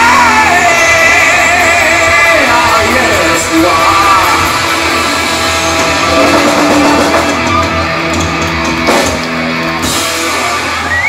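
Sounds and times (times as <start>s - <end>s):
bass guitar: 0.0s - 11.0s
distorted electric guitars: 0.0s - 11.0s
drums: 0.0s - 11.0s.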